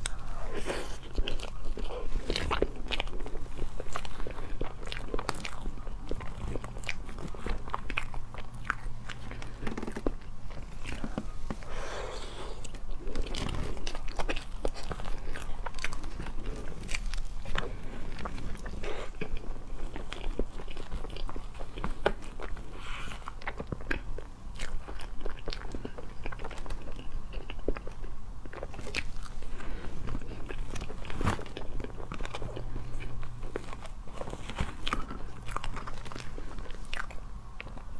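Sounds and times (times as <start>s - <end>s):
wet chewing and lip smacks: 0.0s - 11.7s, 12.6s - 37.9s.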